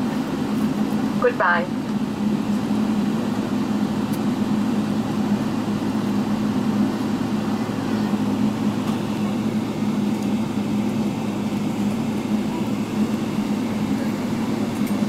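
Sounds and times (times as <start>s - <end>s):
airplane cabin drone: 0.0s - 15.0s.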